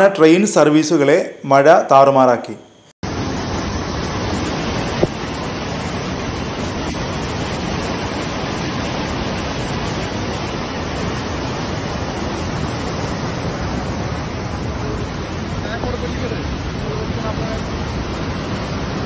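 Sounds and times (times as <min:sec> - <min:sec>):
water rushing over spillway: 0:03.0 - 0:19.0.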